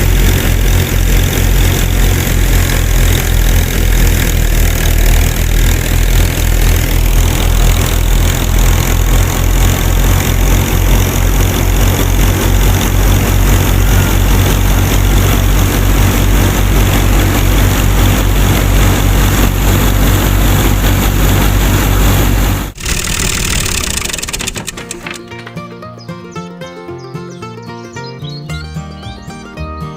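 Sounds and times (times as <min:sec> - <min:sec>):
small engine running: 0:00.0 - 0:25.6.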